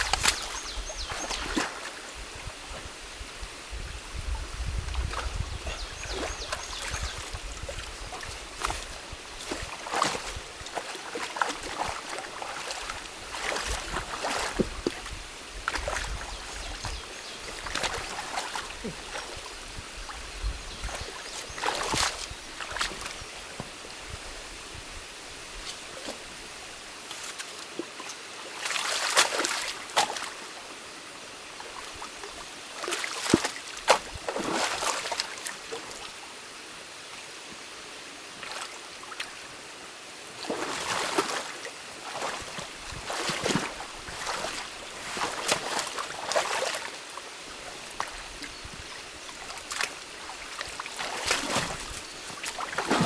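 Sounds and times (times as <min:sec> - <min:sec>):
water splashing and sloshing: 0:00.0 - 0:30.8, 0:31.4 - 0:36.2, 0:38.3 - 0:53.0
stream water running: 0:00.0 - 0:53.0.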